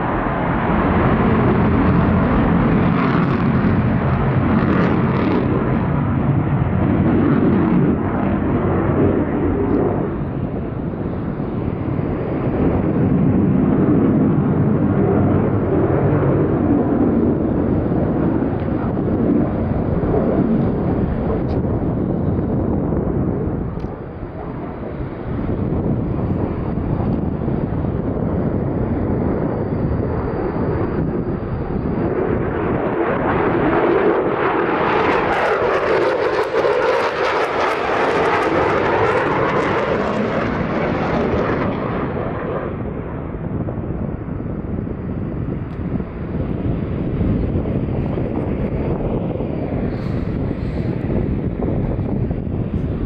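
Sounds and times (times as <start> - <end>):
jet engine rumble: 0.0 - 53.0.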